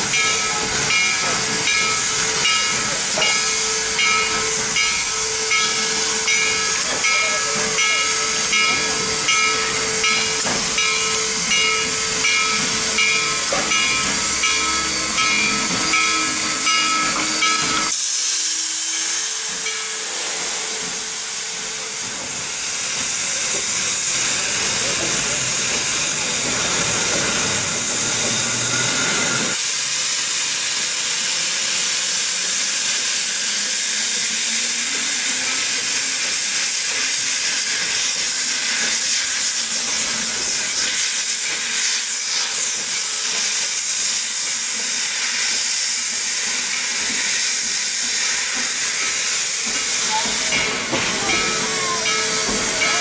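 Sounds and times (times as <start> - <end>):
steam locomotive hissing steam: 0.0 - 53.0.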